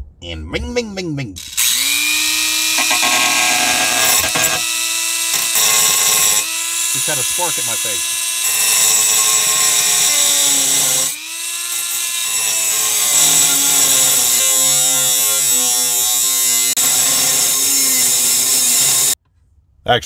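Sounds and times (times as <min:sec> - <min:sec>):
rotary tool cutting metal: 0:01.4 - 0:19.2.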